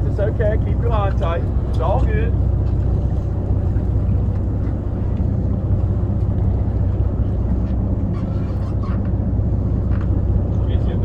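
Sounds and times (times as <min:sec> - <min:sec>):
boat engines rumbling: 0:00.0 - 0:11.0.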